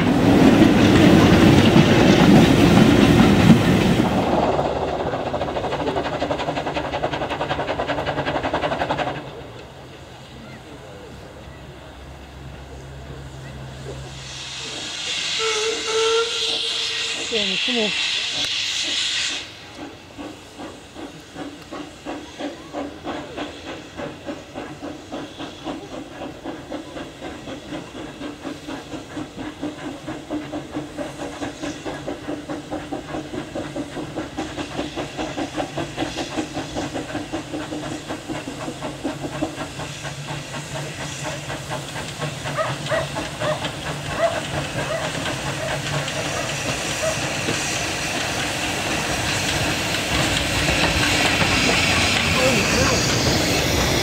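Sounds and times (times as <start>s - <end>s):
steam exhaust beats: 0.0s - 54.0s
steam hiss: 0.0s - 54.0s.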